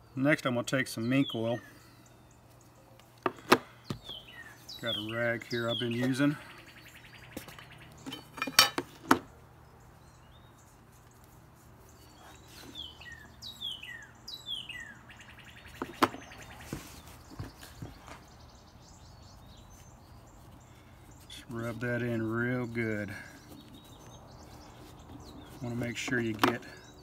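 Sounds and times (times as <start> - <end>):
bird calling: 1.0 - 27.0.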